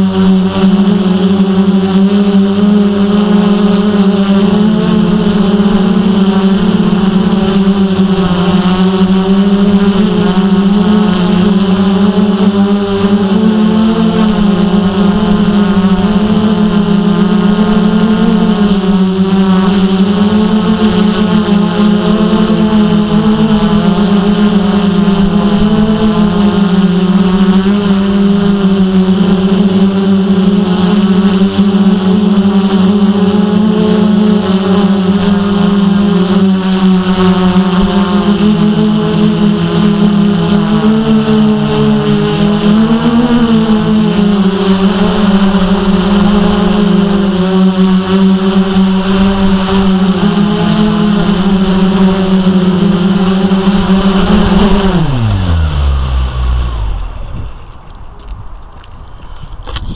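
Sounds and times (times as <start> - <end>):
motors spooling down: 0.0 - 58.3
drone motors buzzing: 0.0 - 59.9.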